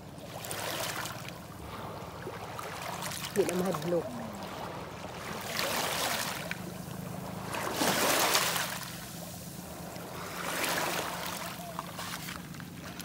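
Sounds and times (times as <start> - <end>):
waves washing over pebbles: 0.0 - 13.0.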